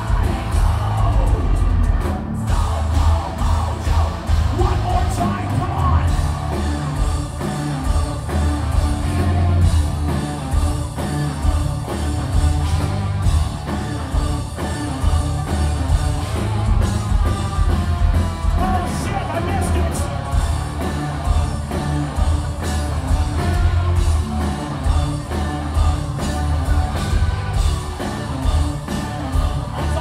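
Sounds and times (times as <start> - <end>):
distorted electric guitars: 0.0 - 30.0
heavy bass: 0.0 - 30.0
pounding drums: 0.0 - 30.0.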